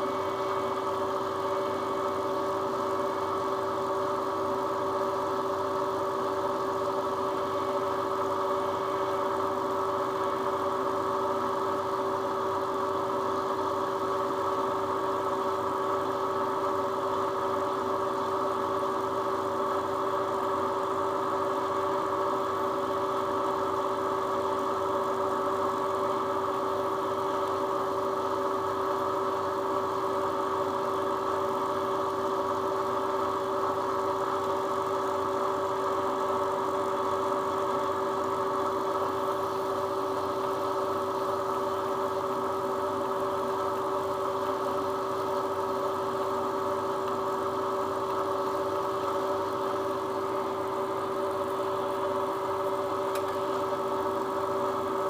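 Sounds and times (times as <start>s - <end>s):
milling machine spindle whine: 0.0s - 55.0s.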